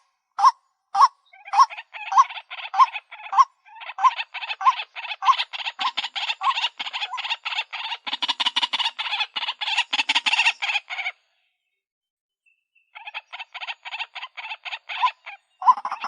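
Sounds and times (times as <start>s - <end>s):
bird calling rapid repeated notes: 0.0s - 11.2s, 12.9s - 16.0s.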